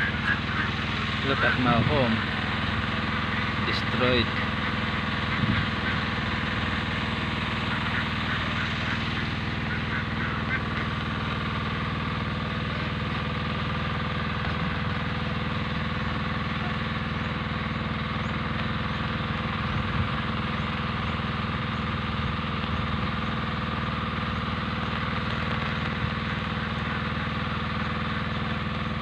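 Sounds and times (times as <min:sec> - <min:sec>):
small engine humming: 0:00.0 - 0:29.0.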